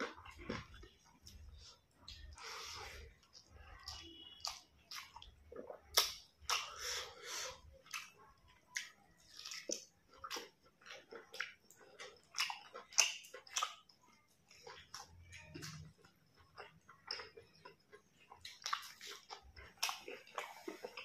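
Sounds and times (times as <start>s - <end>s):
chewing with wet crunches: 0.0s - 21.0s.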